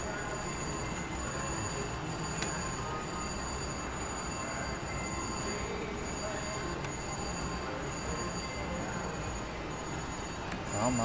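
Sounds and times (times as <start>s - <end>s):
high electronic tones: 0.0s - 11.0s
slot machine noise: 0.0s - 11.0s.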